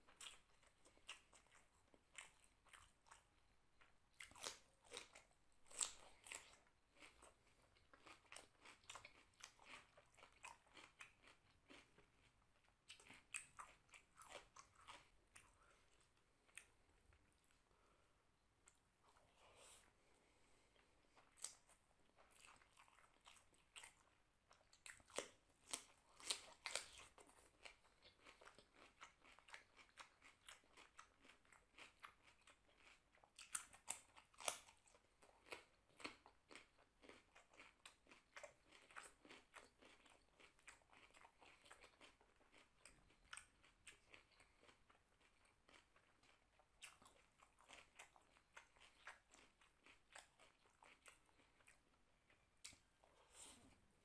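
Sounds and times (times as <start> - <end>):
close chewing with wet clicks: 0.0 - 17.6, 21.2 - 52.9.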